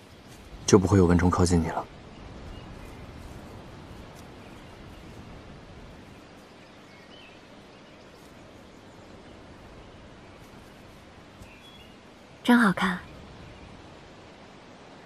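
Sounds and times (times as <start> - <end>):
faint bird chirps: 0.0 - 15.0
soft outdoor hiss: 0.0 - 15.0.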